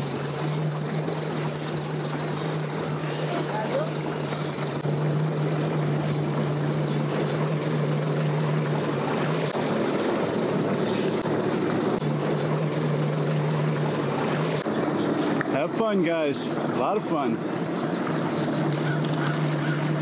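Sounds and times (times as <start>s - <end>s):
outboard motor idling: 0.0s - 20.0s
personal watercraft engine running: 0.0s - 20.0s.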